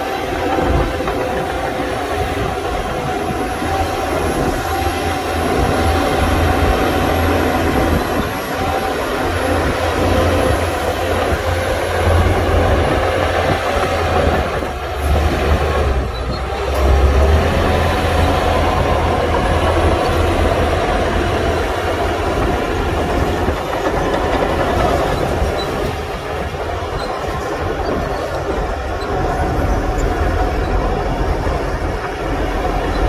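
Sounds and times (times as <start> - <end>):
diesel machinery engine rumble: 0.0 - 33.0.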